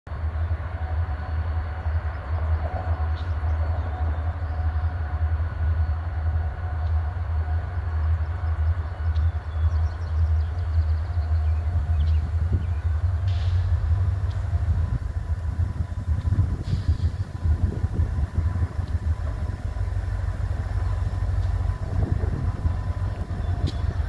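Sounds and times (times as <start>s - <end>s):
diesel locomotive rumbling: 0.1s - 24.0s.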